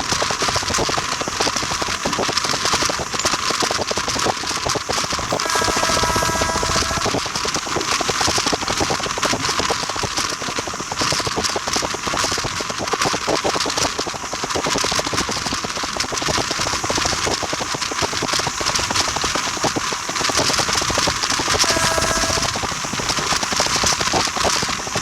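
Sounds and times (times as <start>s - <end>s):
train clattering along track: 0.0s - 25.0s.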